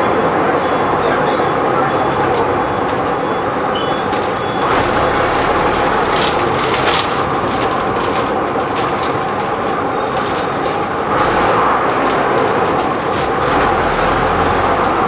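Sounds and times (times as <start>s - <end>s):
bus diesel engine drone: 0.0s - 15.0s
road noise: 0.0s - 15.0s.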